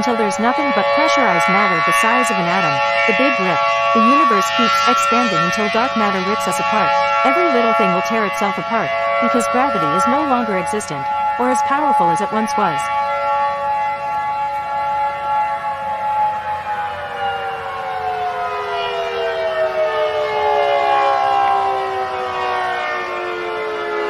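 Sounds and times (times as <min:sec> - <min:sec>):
civil defense siren winding down: 0:00.0 - 0:24.0.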